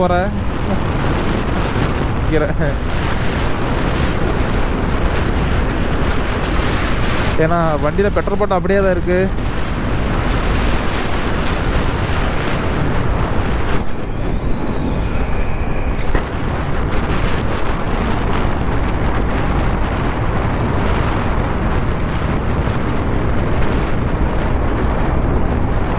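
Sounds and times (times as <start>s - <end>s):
vehicle road and engine noise: 0.0s - 25.9s
wind buffeting microphone: 0.0s - 25.9s.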